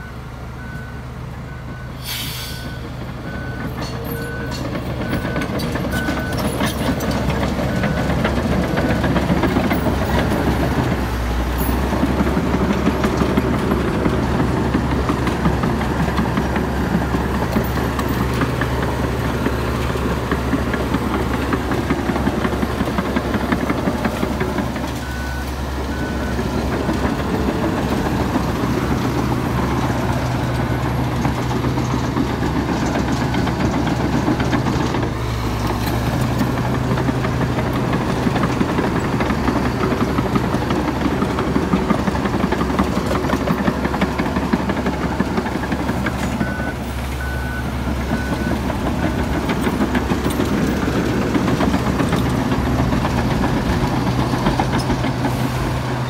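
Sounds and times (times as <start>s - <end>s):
bulldozer diesel engine working: 0.0s - 56.0s.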